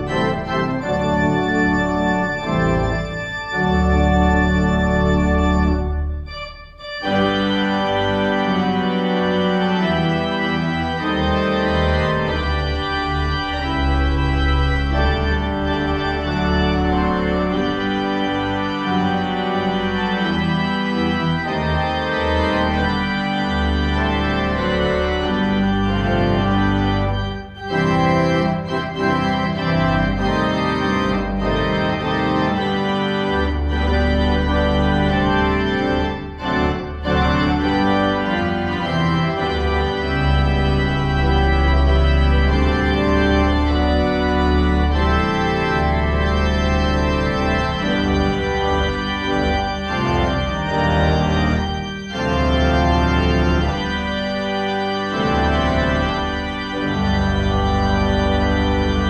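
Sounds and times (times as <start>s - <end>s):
organ chords over bass notes: 0.0s - 59.0s.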